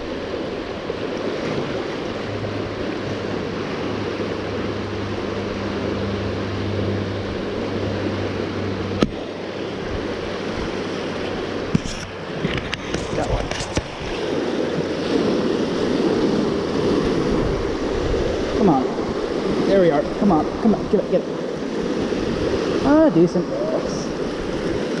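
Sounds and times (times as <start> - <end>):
low steady hum: 0.0 - 25.0
water rushing along channel: 0.0 - 25.0.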